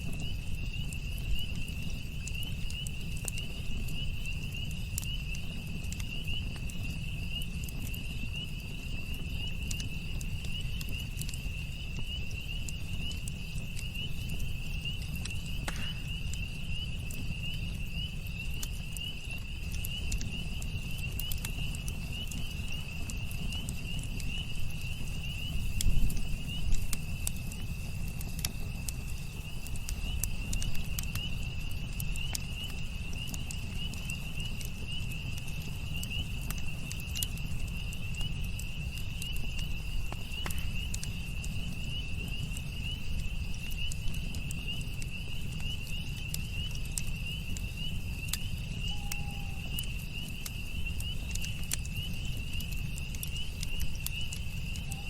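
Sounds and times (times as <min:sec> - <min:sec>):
campfire crackling and popping: 0:00.0 - 0:55.0
crickets trilling: 0:00.0 - 0:55.0.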